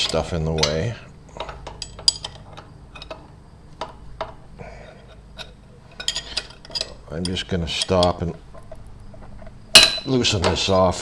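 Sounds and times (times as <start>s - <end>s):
metallic clicks of wrenches: 0.0s - 4.4s, 5.0s - 10.7s.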